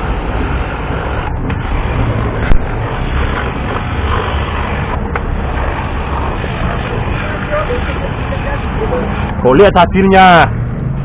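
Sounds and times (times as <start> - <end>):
noisy rumble: 0.0 - 11.0.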